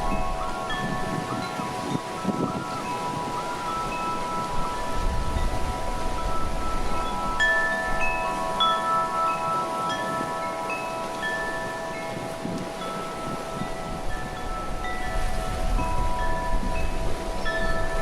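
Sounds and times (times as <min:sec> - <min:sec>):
wind chimes ringing: 0:00.0 - 0:18.0
wind rumbling on microphone: 0:00.0 - 0:18.0.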